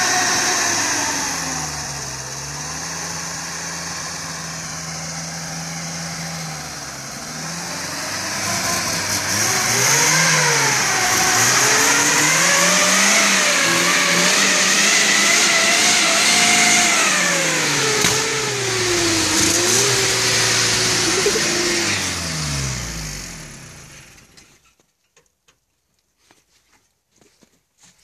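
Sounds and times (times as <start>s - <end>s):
car engine revving: 0.0s - 24.3s.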